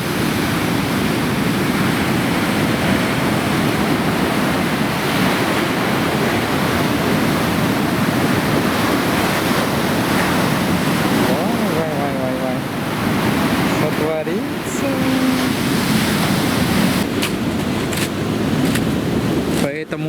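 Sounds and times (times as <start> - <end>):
heavy waves breaking: 0.0 - 20.0
wind buffeting microphone: 0.0 - 20.0.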